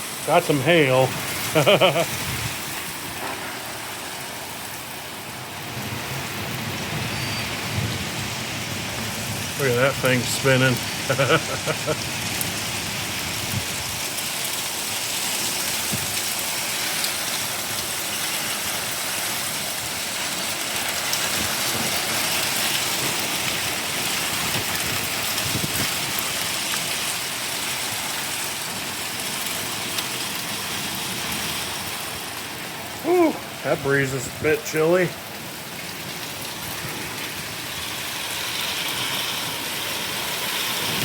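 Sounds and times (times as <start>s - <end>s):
hailstones ticking on surfaces: 0.0s - 41.0s
rain hissing: 0.0s - 41.0s.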